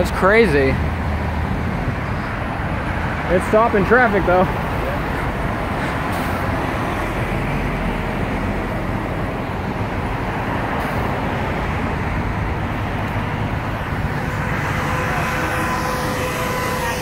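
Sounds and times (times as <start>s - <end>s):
low car rumble: 0.0s - 17.0s.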